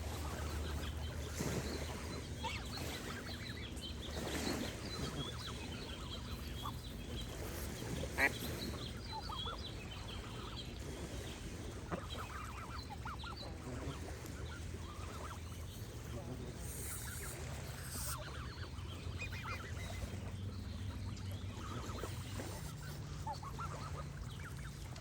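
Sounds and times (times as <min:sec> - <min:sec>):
running water: 0:00.0 - 0:25.0
songbirds chirping: 0:00.0 - 0:25.0.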